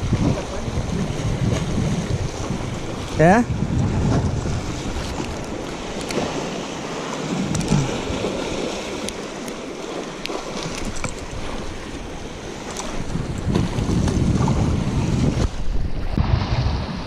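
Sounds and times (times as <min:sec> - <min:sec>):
sea surf washing against jetty: 0:00.0 - 0:17.0.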